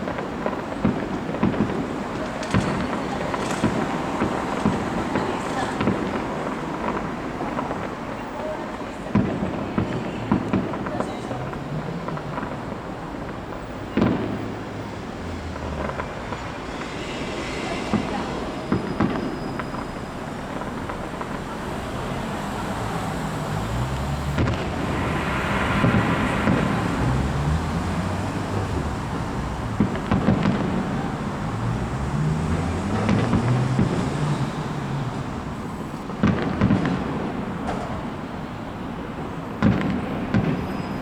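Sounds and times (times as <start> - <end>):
sharp firework bangs: 0.0 - 38.6, 39.6 - 41.0
fireworks booming: 0.0 - 41.0.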